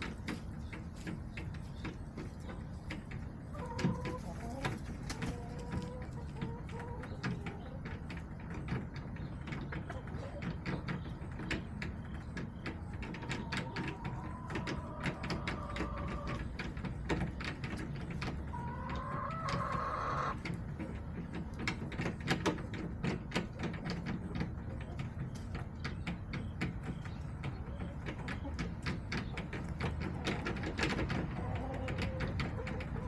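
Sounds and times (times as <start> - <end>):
hens pecking taps: 0.0 - 33.0.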